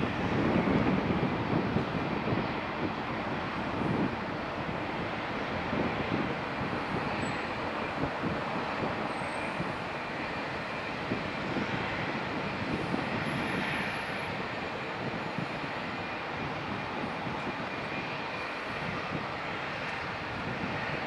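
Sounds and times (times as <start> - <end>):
jet engines rumbling and hissing: 0.0 - 21.0.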